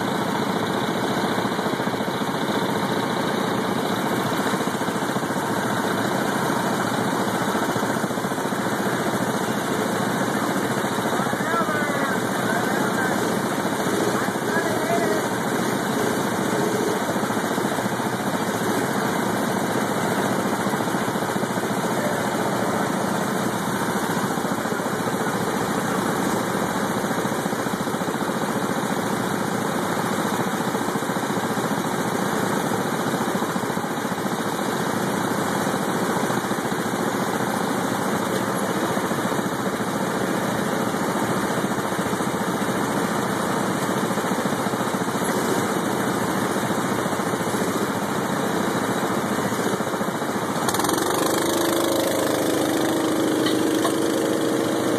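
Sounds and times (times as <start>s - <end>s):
go-kart engines running: 0.0s - 54.9s.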